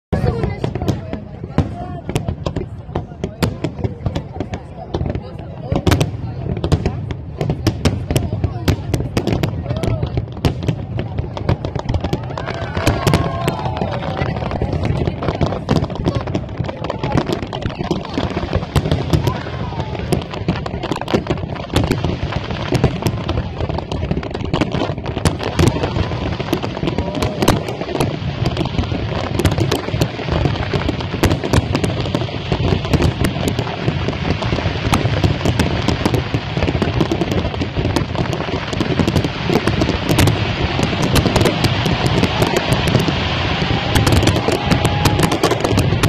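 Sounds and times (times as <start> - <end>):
fireworks bangs and crackles: 0.1 - 46.0.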